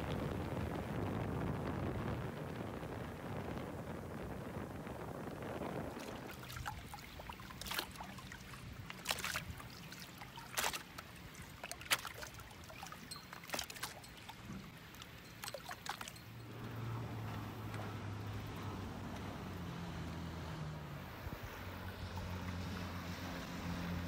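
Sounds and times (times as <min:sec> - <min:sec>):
small waves lapping against boat: 0:00.0 - 0:24.0
water splashing against boat: 0:00.0 - 0:24.0.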